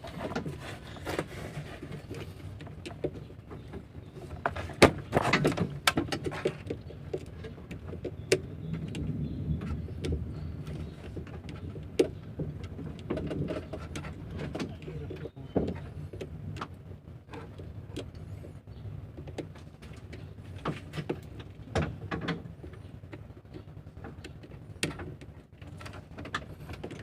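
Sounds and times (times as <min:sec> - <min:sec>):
clicks and rattles of wiring work: 0:00.0 - 0:27.0
steady low hum: 0:00.0 - 0:27.0.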